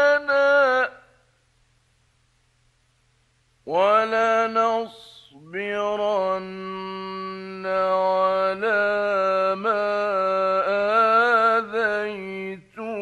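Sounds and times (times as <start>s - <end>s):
man reciting melodically: 0.0s - 1.4s, 3.6s - 13.0s.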